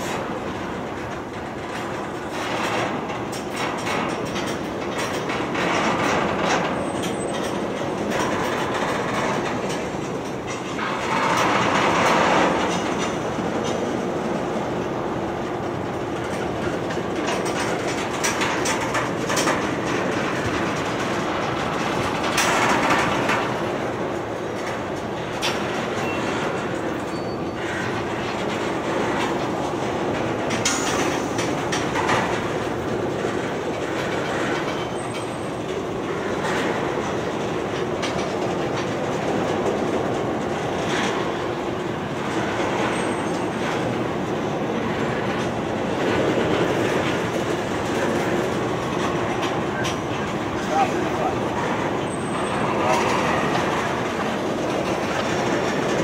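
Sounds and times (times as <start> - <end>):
train wheels rumbling on rail: 0.0 - 56.0
wheels clanking over rail joints: 0.0 - 56.0.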